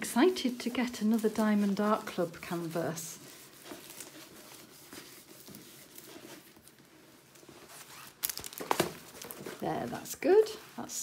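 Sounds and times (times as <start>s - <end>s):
canvas rustling and crackling: 0.0s - 11.0s.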